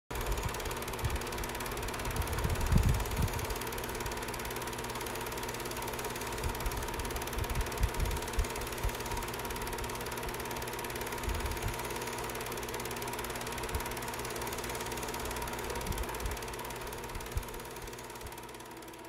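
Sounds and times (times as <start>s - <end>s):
film projector clatter and hum: 0.1s - 19.0s.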